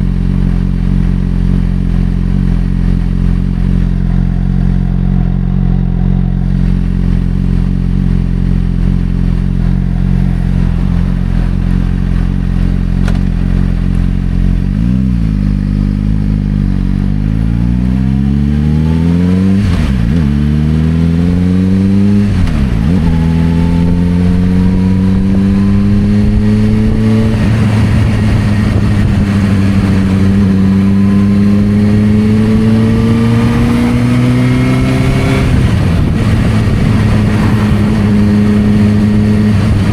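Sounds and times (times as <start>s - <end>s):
gear changes: 0.0s - 39.9s
motorcycle engine revving: 0.0s - 39.9s.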